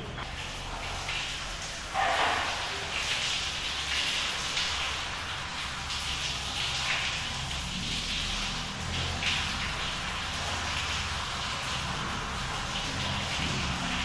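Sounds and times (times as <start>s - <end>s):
shower water spraying: 0.0s - 14.0s.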